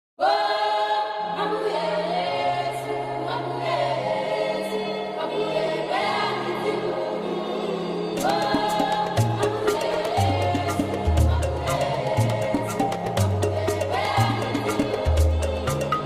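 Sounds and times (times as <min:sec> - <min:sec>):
choir singing: 0:00.2 - 0:16.0.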